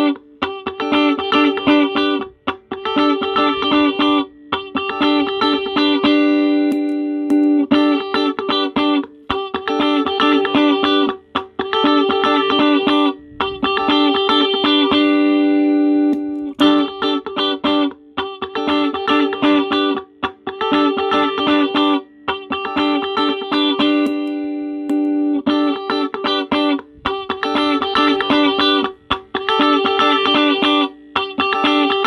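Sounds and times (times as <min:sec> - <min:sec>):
clean electric guitar: 0:00.0 - 0:32.0.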